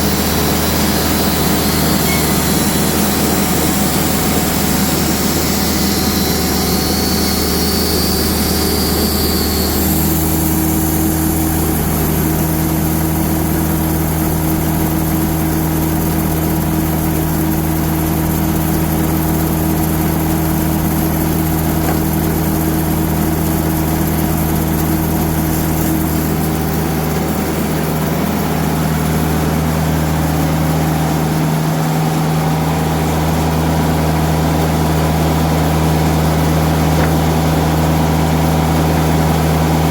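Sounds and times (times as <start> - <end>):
diesel sawmill engine running: 0.0 - 39.9.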